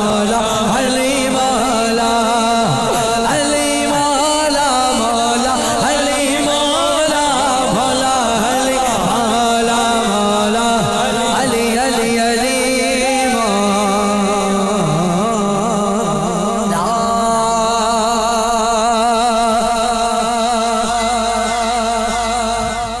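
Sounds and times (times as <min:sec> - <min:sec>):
man singing devotional song: 0:00.0 - 0:23.0.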